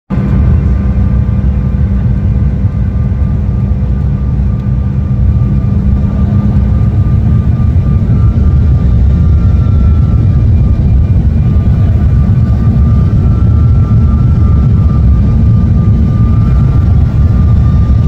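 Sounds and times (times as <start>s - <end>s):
jet engines rumbling: 0.1s - 18.0s
faint steady tones: 0.2s - 18.0s.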